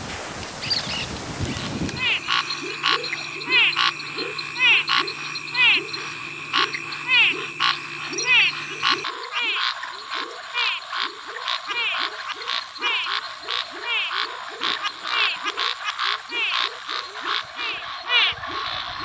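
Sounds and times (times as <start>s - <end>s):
treefrog calling: 0.6s - 19.0s.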